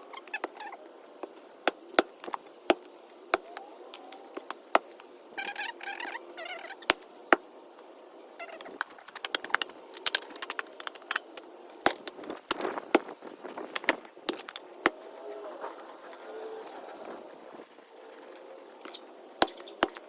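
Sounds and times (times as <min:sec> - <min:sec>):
branches and twigs snapping: 0:00.1 - 0:16.2, 0:17.0 - 0:20.0.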